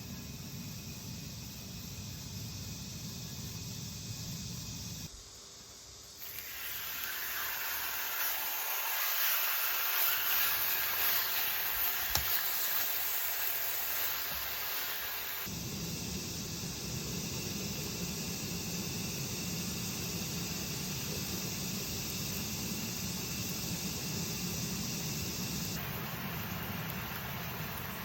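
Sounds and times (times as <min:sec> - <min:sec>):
steady rushing hiss: 0:00.0 - 0:28.0.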